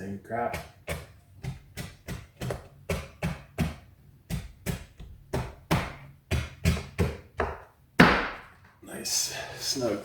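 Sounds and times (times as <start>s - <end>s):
knocks on wooden board: 0.5s - 8.5s.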